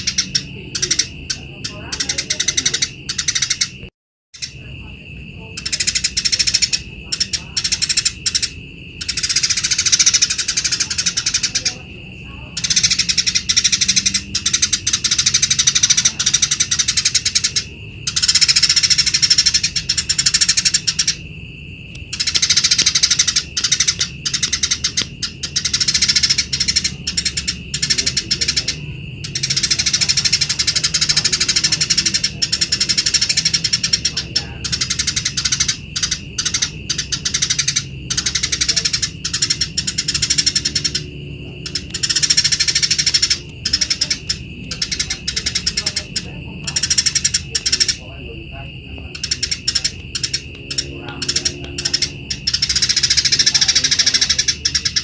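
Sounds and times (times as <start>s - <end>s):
sparrow chattering trills: 0.0s - 55.0s.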